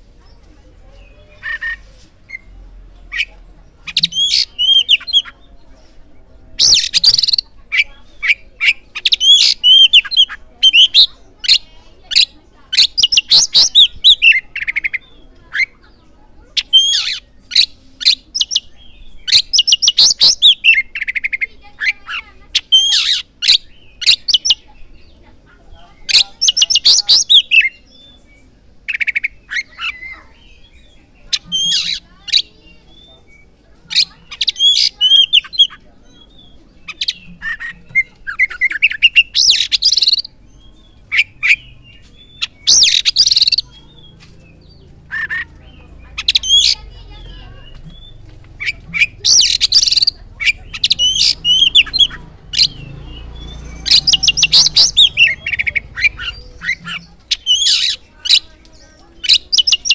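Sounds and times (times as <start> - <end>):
bird song whistles and chatter: 0.0 - 59.9
harsh rasping bird calls: 0.0 - 59.9.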